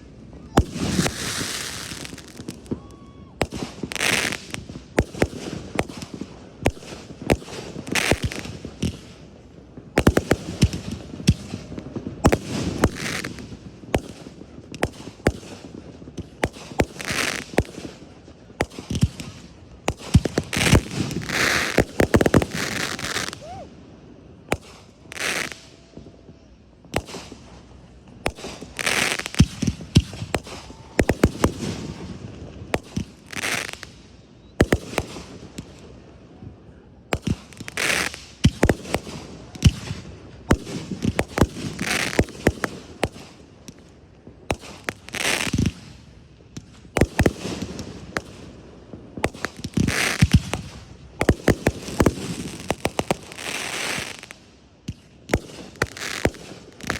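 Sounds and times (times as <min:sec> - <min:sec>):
fireworks hissing crackle: 0:00.0 - 0:36.4, 0:37.1 - 0:56.9
fireworks bangs: 0:00.0 - 0:56.9.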